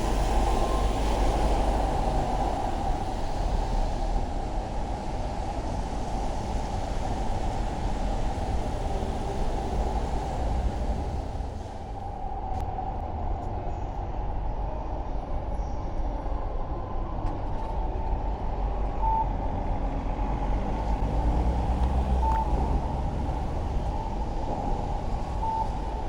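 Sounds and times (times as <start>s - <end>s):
road and traffic noise: 0.0s - 26.0s
wind rumble on microphone: 0.0s - 26.0s.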